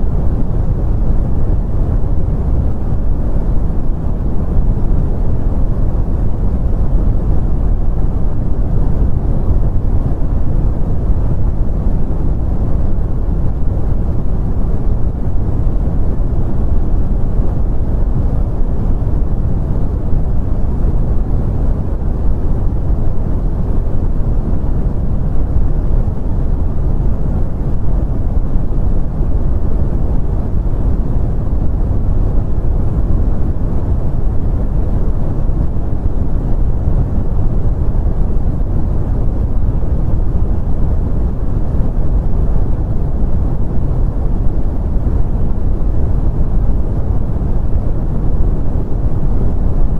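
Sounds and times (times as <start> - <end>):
brown noise hiss: 0.0 - 49.9.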